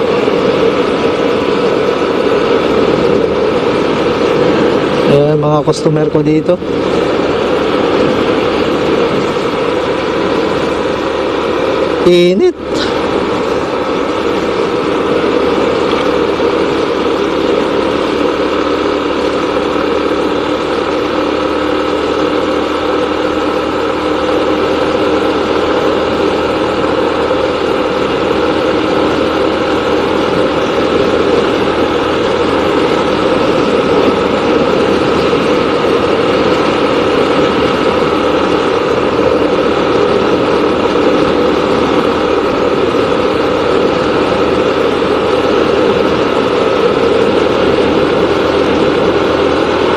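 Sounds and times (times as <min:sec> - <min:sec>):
road noise: 0:00.0 - 0:49.9
vehicle engine droning: 0:00.0 - 0:49.9.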